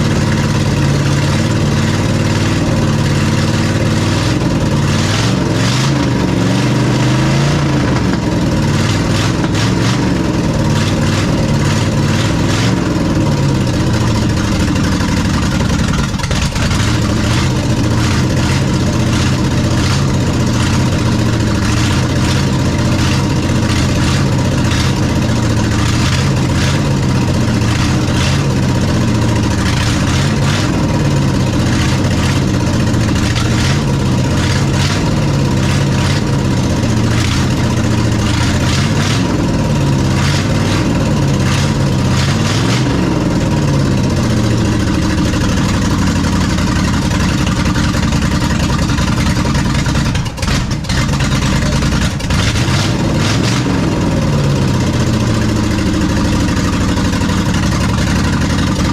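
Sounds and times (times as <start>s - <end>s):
race engine idling: 0.0s - 58.9s.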